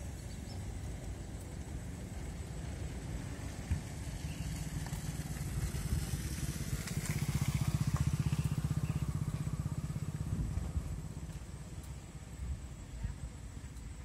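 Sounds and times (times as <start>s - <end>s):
small engine passing by: 0.0s - 12.5s.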